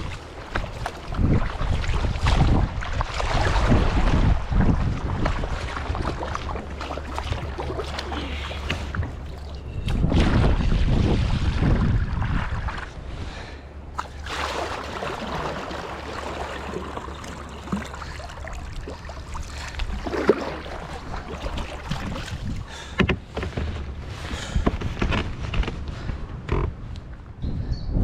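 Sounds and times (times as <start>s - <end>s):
water splashing around kayak: 0.0s - 26.7s
low wind rumble: 0.0s - 28.0s.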